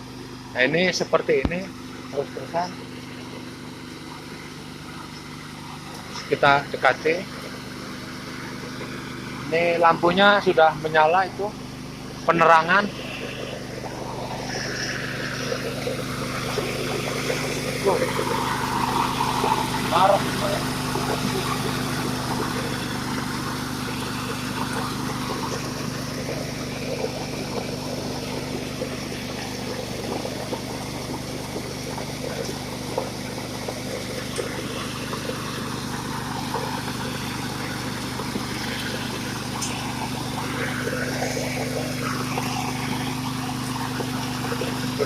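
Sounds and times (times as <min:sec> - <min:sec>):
engine hum: 0:00.0 - 0:45.0.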